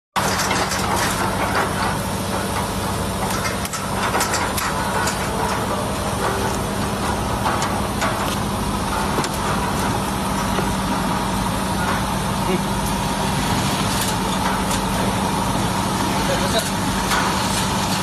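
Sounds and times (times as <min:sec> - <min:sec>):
tape rolls clattering on metal: 0:00.2 - 0:12.2, 0:13.8 - 0:18.0
machine motor hum: 0:00.2 - 0:18.0.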